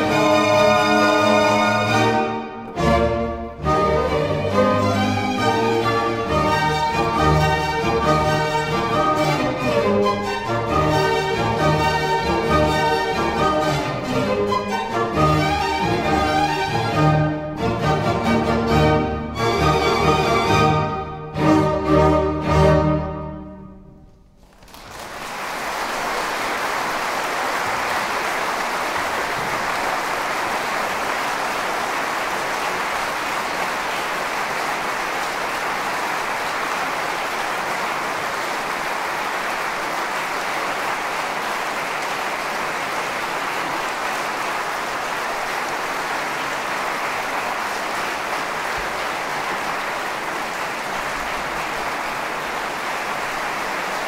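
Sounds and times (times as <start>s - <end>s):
audience applauding: 0.0s - 17.0s, 24.3s - 54.0s.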